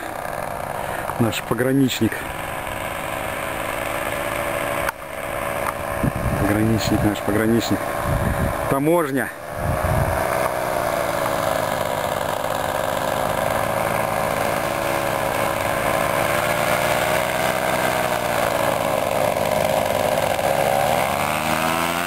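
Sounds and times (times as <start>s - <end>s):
paramotor engine and propeller droning: 0.0s - 22.0s.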